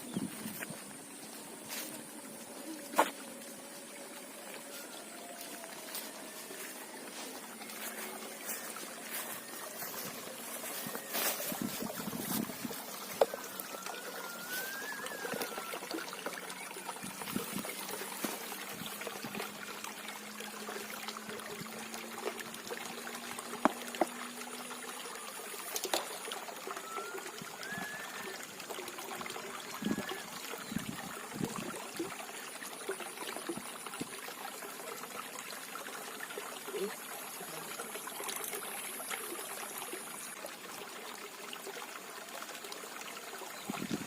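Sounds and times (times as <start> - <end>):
water trickling and flowing: 0.0 - 44.0.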